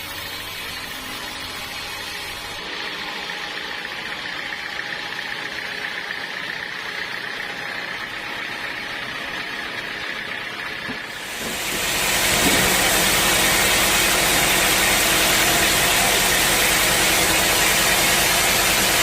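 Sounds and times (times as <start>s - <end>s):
sawmill machinery idling: 0.0s - 19.0s.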